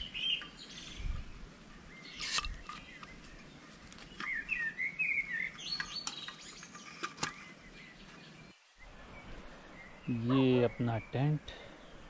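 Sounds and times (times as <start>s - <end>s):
small bird chirping and warbling: 0.0s - 12.0s.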